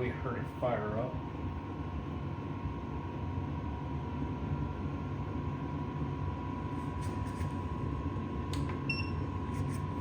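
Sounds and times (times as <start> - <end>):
diesel heater burner and fan rumble: 0.0 - 10.0.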